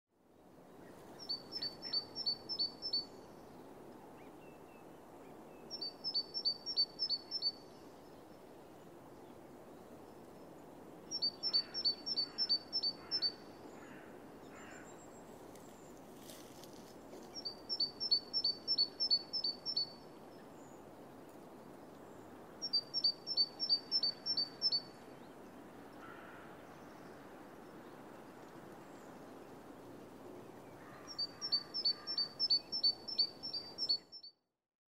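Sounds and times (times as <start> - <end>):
steady outdoor hiss: 0.1 - 34.3.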